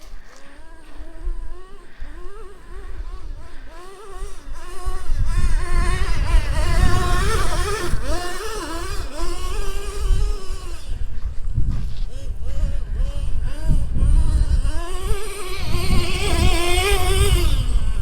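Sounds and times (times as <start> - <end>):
nitro engine revving: 0.0 - 18.0.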